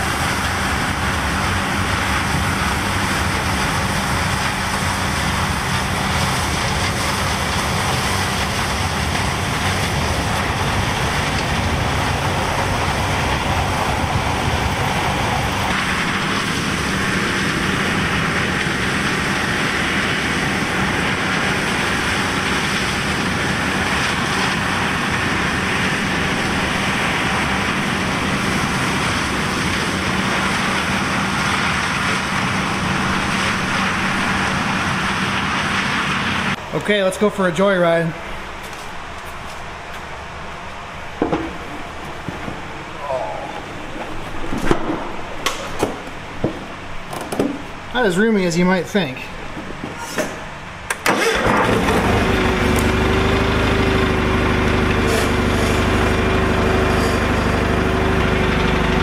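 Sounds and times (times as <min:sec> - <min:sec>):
garden tractor engine running: 0:00.0 - 0:43.4, 0:50.8 - 0:59.0.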